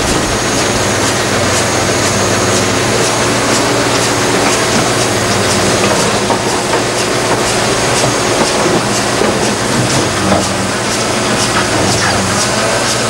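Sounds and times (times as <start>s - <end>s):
bucket and linkage clanks: 0.0s - 13.0s
excavator diesel engine running: 0.0s - 13.0s.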